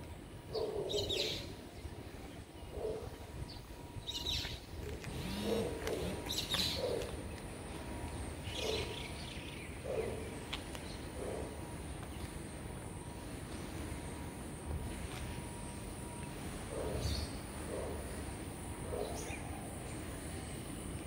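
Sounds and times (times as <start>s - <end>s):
birds chirping: 0.5s - 13.3s, 15.4s - 21.0s.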